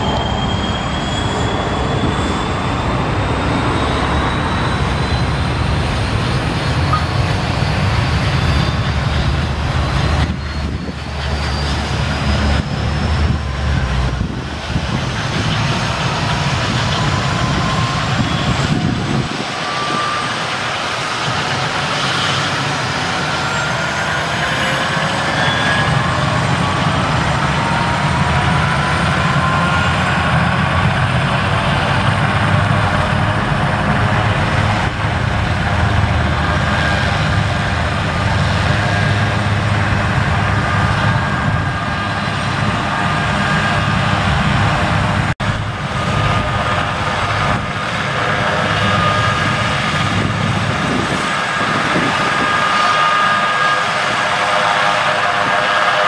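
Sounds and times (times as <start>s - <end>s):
helicopter rotor rumble: 0.0s - 56.0s
turbine whine: 0.0s - 56.0s.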